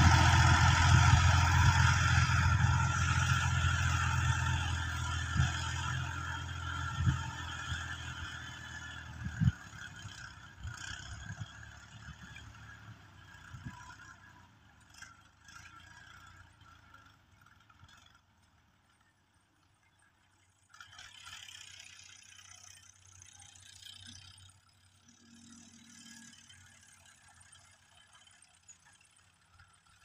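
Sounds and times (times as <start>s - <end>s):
distant tractor diesel engine: 0.0s - 19.0s, 20.4s - 30.0s.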